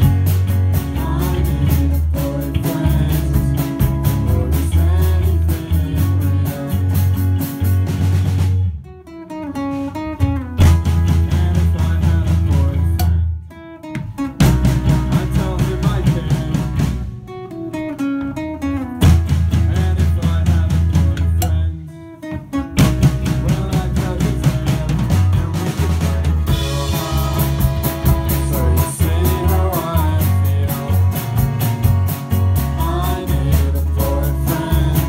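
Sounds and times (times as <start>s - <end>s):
drum kit: 0.0s - 13.3s, 14.0s - 35.0s
acoustic guitar: 0.0s - 35.0s
bass guitar: 0.0s - 35.0s.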